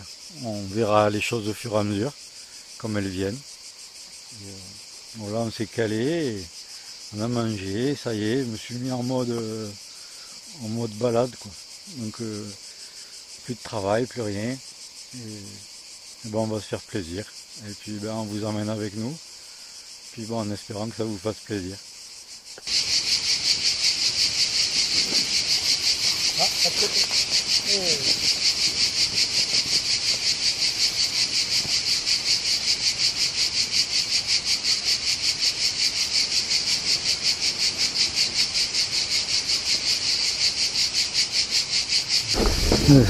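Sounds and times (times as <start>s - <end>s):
cicadas pulsing chorus: 0.0s - 43.0s.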